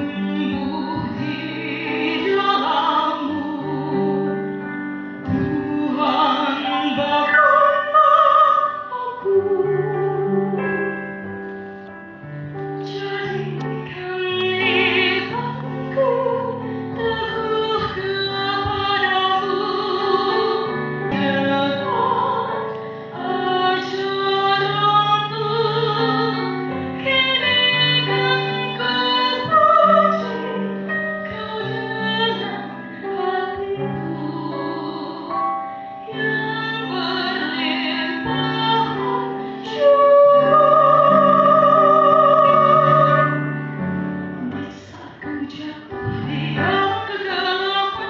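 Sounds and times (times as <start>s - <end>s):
woman singing with vibrato: 0.0s - 4.3s, 5.3s - 10.6s, 12.9s - 35.4s, 36.1s - 43.5s, 44.4s - 48.0s.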